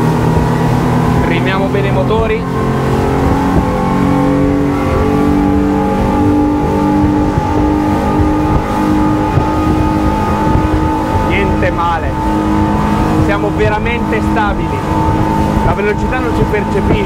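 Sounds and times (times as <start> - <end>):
outboard engines whining: 0.0 - 17.0
wind and water rushing: 0.0 - 17.0.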